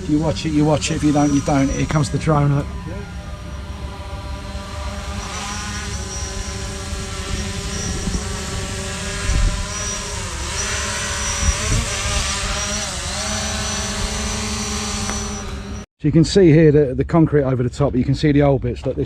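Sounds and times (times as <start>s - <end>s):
drone propellers buzzing: 0.0s - 15.9s.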